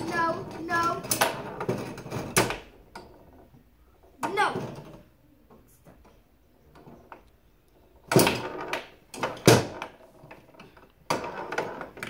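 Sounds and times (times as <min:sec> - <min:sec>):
foosball ball and players clicking: 0:00.0 - 0:12.0.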